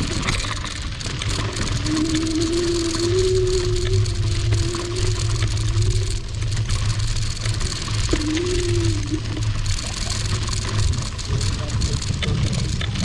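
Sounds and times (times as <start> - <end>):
electric motor whine: 0.0 - 13.0
tyres rumbling on gravel: 0.0 - 13.0.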